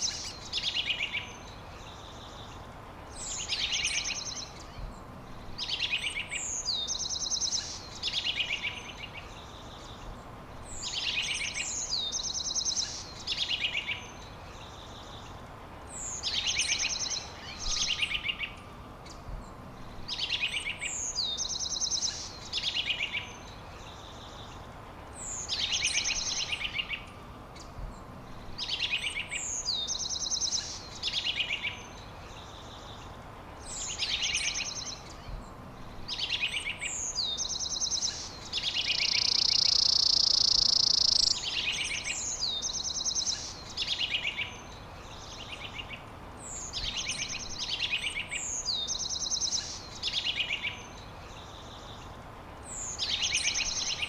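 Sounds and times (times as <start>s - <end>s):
background hiss: 0.0s - 54.0s
songbird singing: 0.0s - 54.0s.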